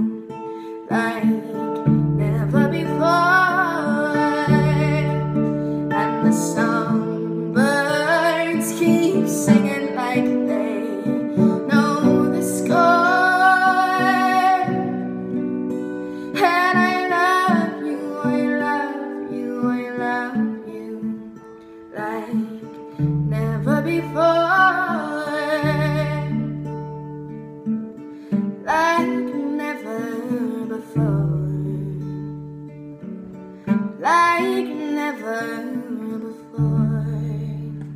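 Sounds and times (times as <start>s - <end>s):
woman singing: 0.0s - 27.1s, 28.5s - 32.6s, 33.8s - 37.9s
acoustic guitar: 0.0s - 37.9s.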